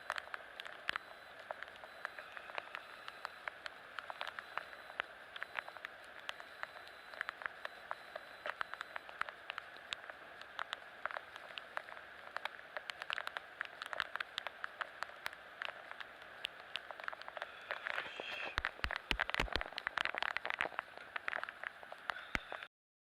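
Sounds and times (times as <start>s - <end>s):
raindrops pattering: 0.0s - 22.7s
steady hiss of rain: 0.0s - 22.7s.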